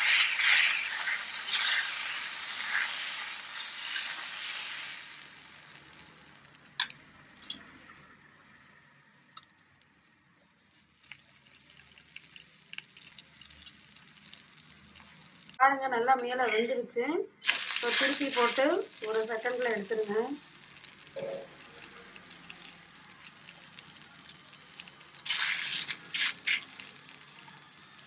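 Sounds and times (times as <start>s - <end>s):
batter sizzling on hot pan: 0.0s - 15.6s, 17.4s - 28.0s.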